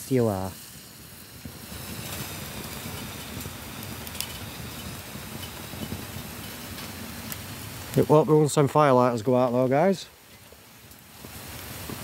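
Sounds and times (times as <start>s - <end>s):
fire crackles: 0.0s - 12.0s
wood fire rumbling in stove: 0.0s - 12.0s.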